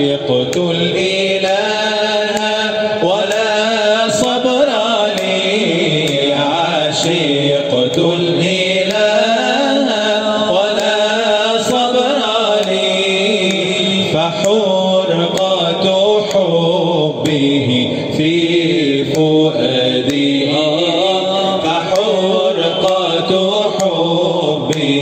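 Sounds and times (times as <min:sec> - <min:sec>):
man chanting: 0:00.0 - 0:25.0.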